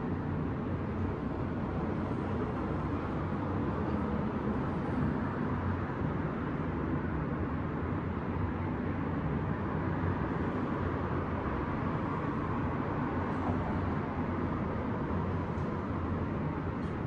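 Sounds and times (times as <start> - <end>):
distant city traffic rumble: 0.0 - 17.0.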